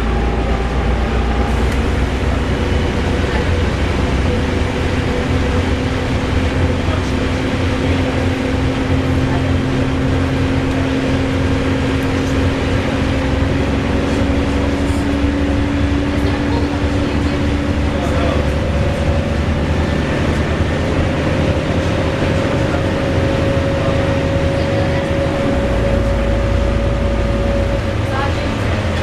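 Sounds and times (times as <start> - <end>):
bus engine rumbling: 0.0 - 29.0.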